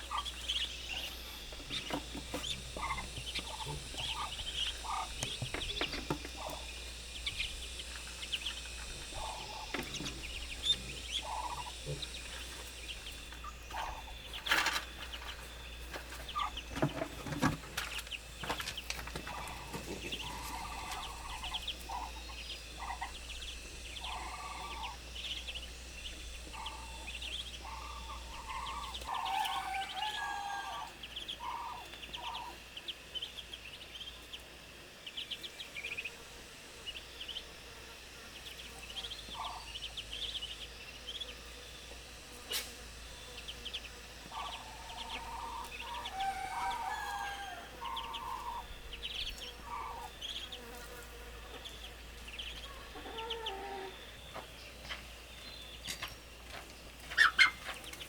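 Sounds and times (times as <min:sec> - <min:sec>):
chicks peeping: 0:00.0 - 0:58.0
poultry clucking: 0:00.0 - 0:58.0.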